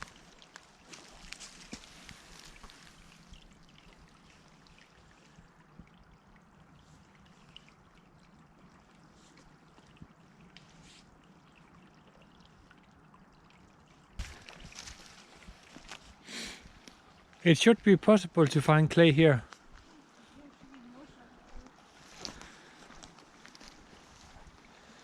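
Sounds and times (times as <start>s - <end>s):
water trickling: 0.0s - 25.0s.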